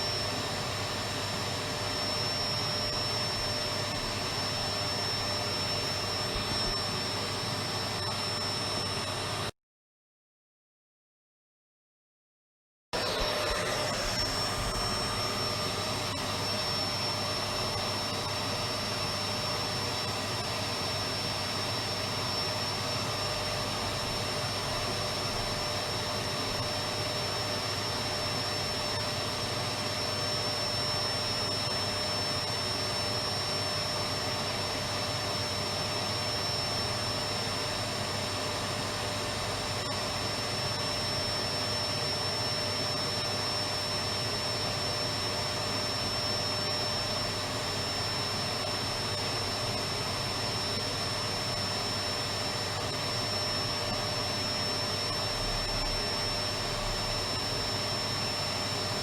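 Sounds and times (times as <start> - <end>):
vacuum cleaner running: 0.0 - 9.5, 13.0 - 59.0.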